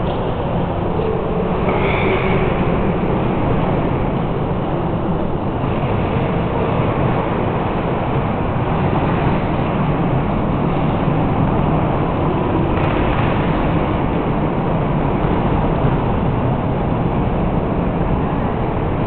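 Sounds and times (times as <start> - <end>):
railway station hall rumble: 0.0 - 19.0.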